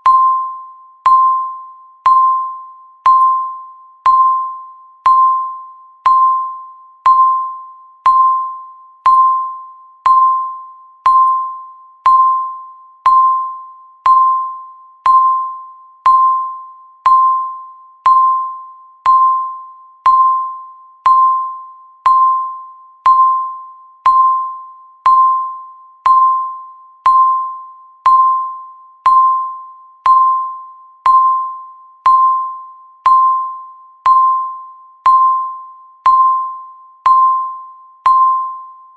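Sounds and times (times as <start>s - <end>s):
countdown timer beeping: 0.0s - 38.8s.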